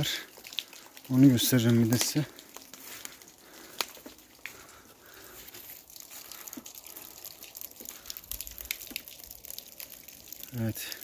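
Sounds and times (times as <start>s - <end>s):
small stream trickling: 0.0s - 11.0s.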